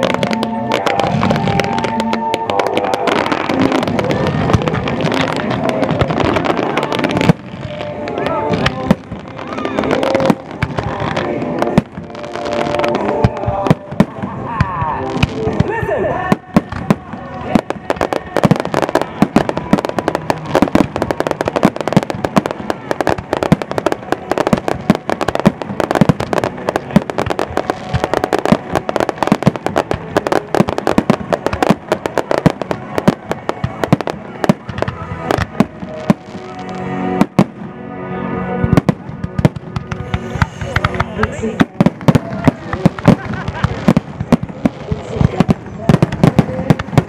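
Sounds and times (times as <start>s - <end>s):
fireworks bursting and crackling: 0.0s - 37.8s, 38.6s - 47.0s
music: 0.0s - 47.0s.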